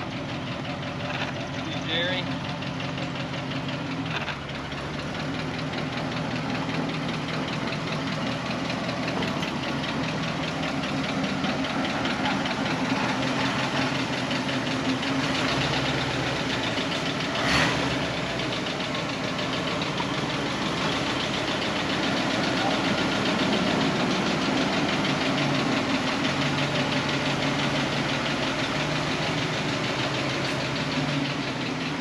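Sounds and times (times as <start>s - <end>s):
engine running with clatter: 0.0s - 32.0s.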